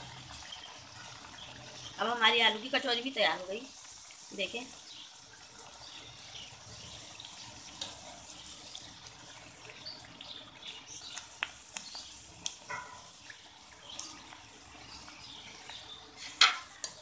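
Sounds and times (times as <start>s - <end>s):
oil sizzling while deep-frying: 0.0s - 17.0s.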